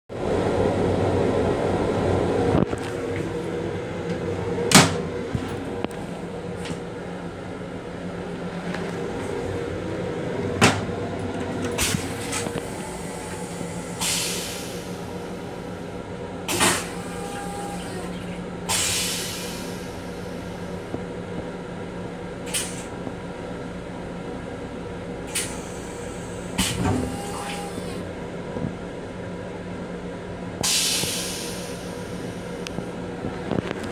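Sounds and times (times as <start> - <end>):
electric train running hum: 0.1 - 33.9.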